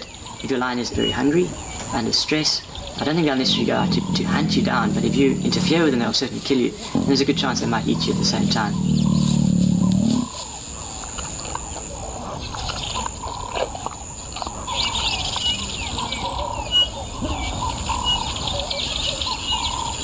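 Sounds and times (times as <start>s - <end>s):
birds chirping and warbling: 0.0s - 20.0s.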